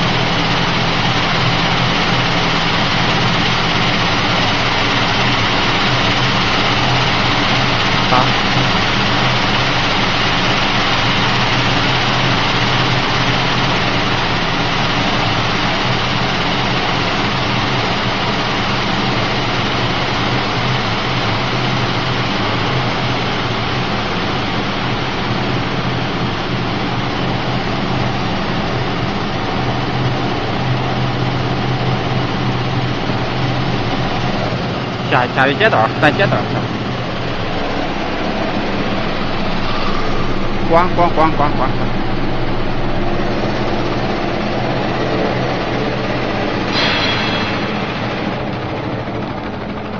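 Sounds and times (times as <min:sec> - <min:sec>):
motor hum: 0:00.0 - 0:49.9.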